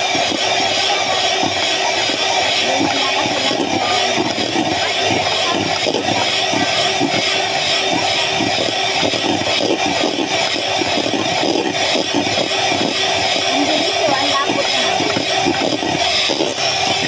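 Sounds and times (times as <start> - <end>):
electric hand mixer running: 0.0 - 17.0.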